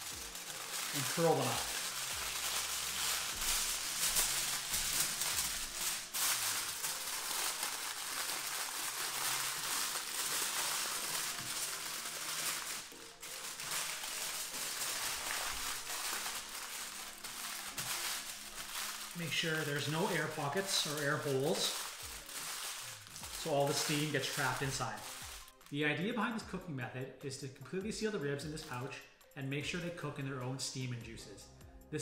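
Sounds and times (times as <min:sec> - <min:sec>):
aluminium foil crinkling: 0:00.0 - 0:25.8.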